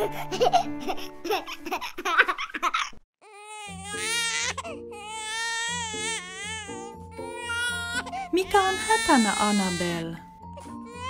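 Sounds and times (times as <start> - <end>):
soft background music: 0.0 - 2.3, 3.2 - 11.0
baby doll crying: 1.4 - 11.0.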